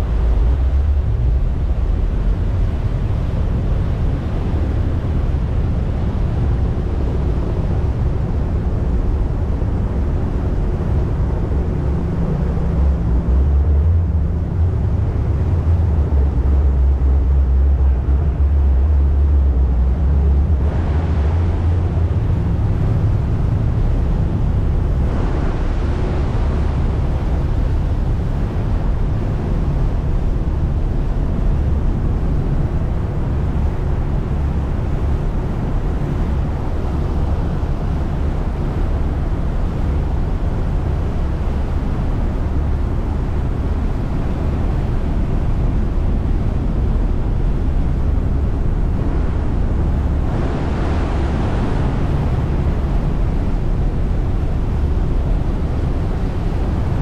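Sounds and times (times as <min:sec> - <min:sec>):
ferry engines rumbling: 0:00.0 - 0:57.0
wind and water noise: 0:00.0 - 0:57.0.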